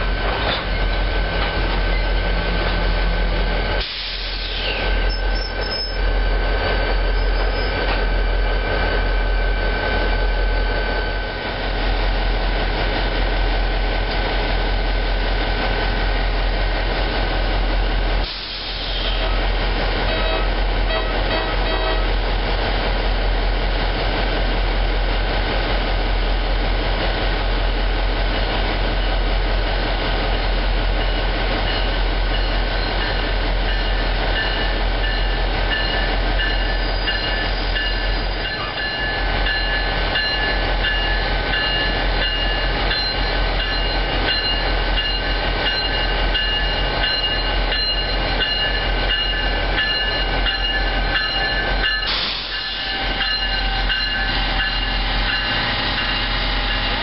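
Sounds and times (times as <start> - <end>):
diesel locomotive running: 0.0 - 57.0
train rumbling: 0.0 - 57.0.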